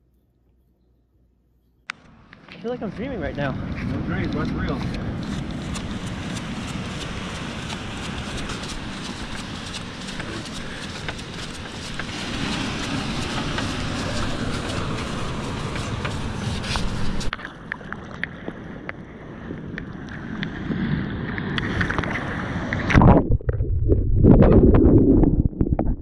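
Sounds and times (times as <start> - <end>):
ocean surf: 2.1 - 23.0
wind on microphone: 3.0 - 26.0.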